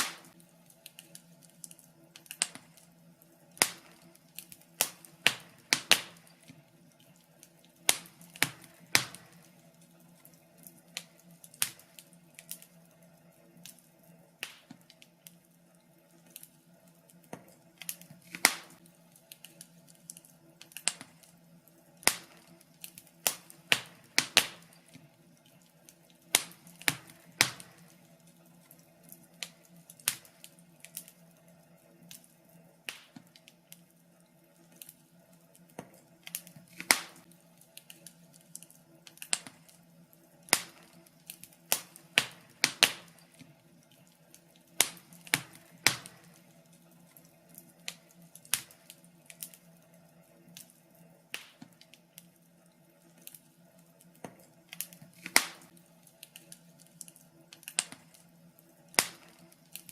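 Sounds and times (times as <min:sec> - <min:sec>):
low steady hum: 0:00.0 - 0:59.9
wood fire crackling: 0:00.0 - 0:59.9.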